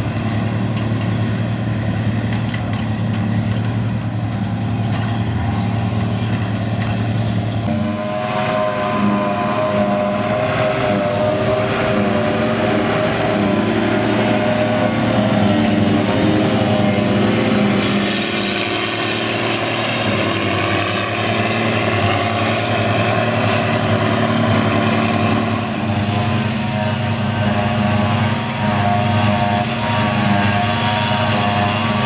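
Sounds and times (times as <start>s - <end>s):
forage harvester working: 0.0s - 32.0s
tractor diesel engine: 0.0s - 32.0s.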